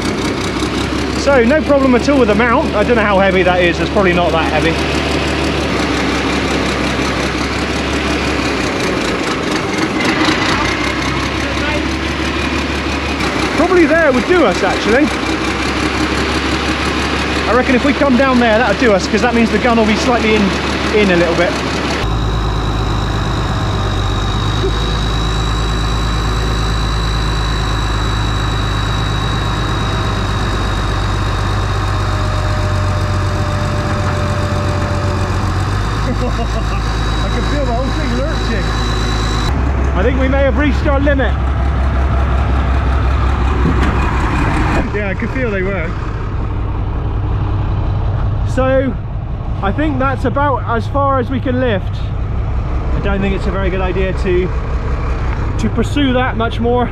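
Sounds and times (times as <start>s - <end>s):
diesel engine running: 0.0s - 56.9s
high hydraulic whine: 0.0s - 56.9s.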